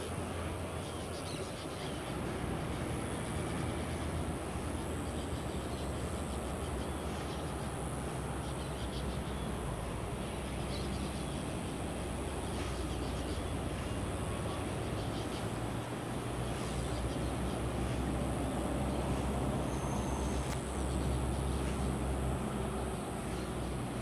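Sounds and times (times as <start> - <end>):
high insect drone: 0.0 - 24.0
steady low rumble: 0.0 - 24.0.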